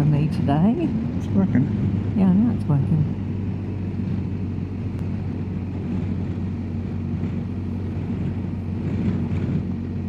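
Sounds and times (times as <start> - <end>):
motorcycle engine cruising: 0.0 - 10.0
road noise: 0.0 - 10.0
wind noise: 0.0 - 10.0.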